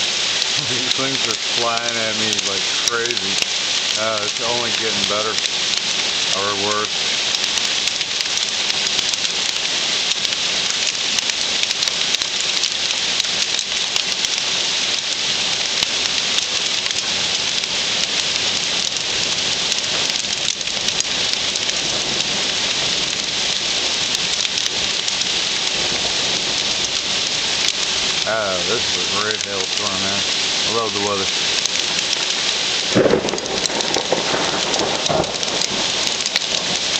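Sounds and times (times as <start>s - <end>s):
constant hiss: 0.0s - 36.9s
hail clattering on hard surfaces: 0.0s - 36.9s.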